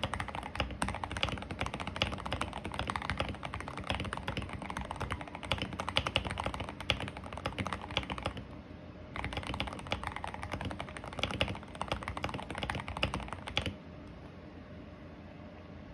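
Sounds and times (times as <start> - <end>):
mechanical keyboard typing: 0.0 - 8.6, 9.2 - 13.8.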